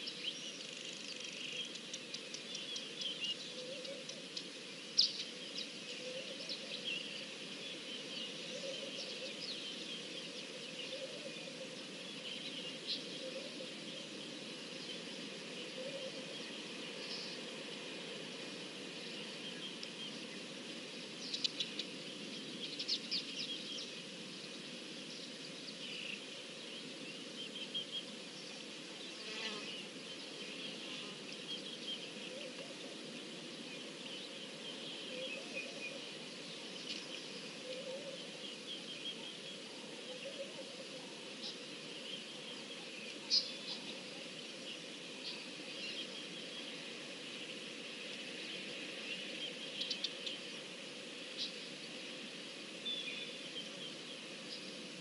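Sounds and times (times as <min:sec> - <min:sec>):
lower bird calls: 0:00.0 - 0:55.0
steady high background hiss: 0:00.0 - 0:55.0.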